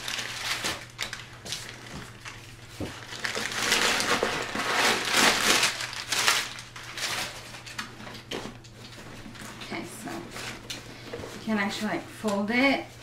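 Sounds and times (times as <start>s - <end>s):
packing paper crinkling: 0.0s - 10.8s.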